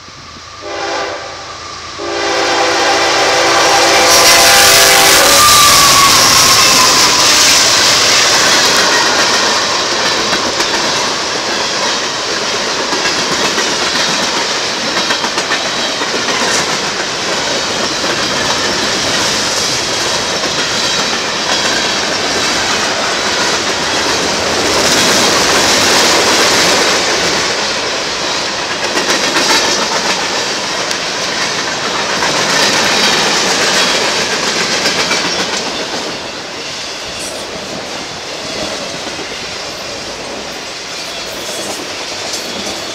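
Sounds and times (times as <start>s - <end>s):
freight train wheels clacking: 0.0s - 42.9s.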